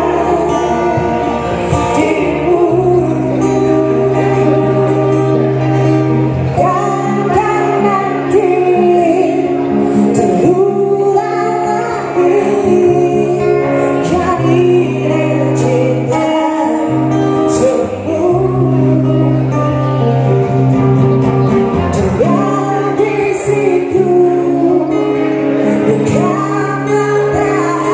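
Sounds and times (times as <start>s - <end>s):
acoustic guitar: 0.0s - 27.9s
person singing: 0.0s - 27.9s.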